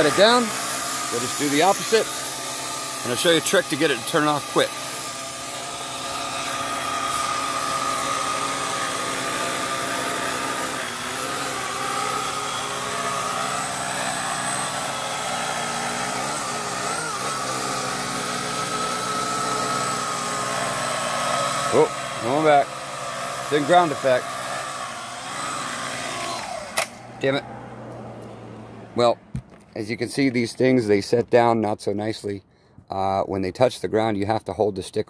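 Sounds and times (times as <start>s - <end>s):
drone propellers whining: 0.0s - 29.8s.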